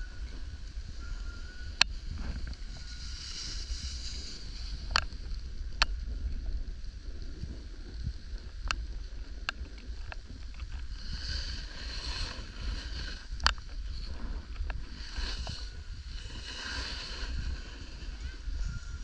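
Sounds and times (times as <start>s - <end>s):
snowboard scraping over snow: 0.0s - 19.0s
wind rumbling on microphone: 0.0s - 19.0s.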